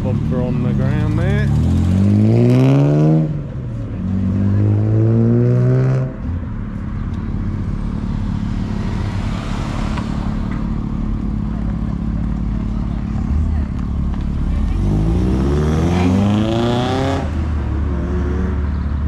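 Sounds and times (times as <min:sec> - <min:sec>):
car engine revving: 0:00.0 - 0:06.5, 0:07.3 - 0:19.0.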